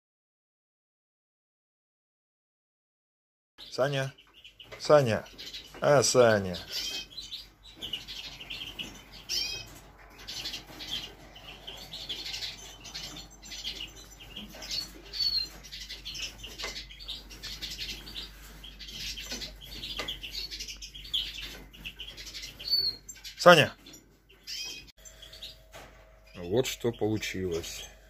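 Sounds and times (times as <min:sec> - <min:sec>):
finches chirping: 0:03.6 - 0:28.0.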